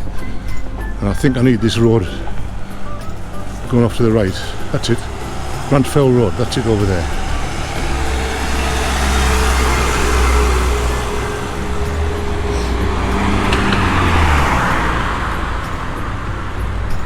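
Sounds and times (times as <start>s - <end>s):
vehicle engine and tyre noise: 0.0s - 17.0s.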